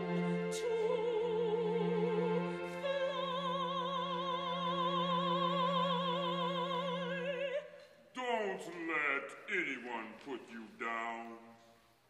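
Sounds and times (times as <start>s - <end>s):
operatic singing with vibrato: 0.0s - 11.8s.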